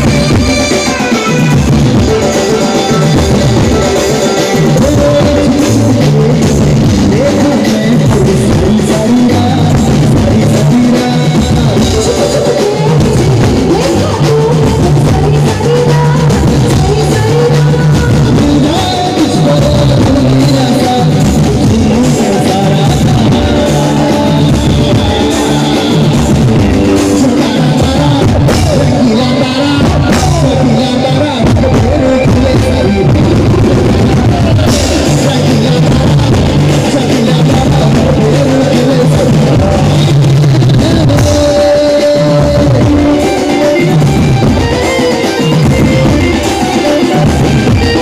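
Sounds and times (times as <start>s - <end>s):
banjo band dance music: 0.0s - 48.0s
person singing: 0.0s - 48.0s.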